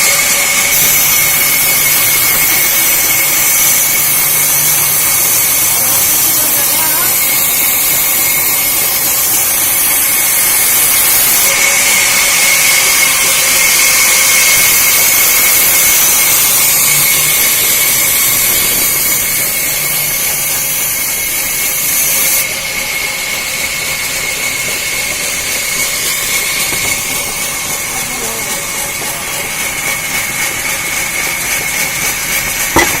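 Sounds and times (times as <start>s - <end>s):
sawmill saw whining: 0.0s - 33.0s.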